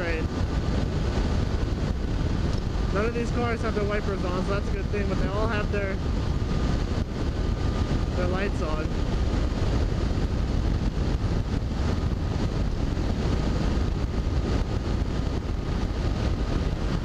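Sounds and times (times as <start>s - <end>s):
motorcycle cruising: 0.0s - 17.0s
wind rush on microphone: 0.0s - 17.0s.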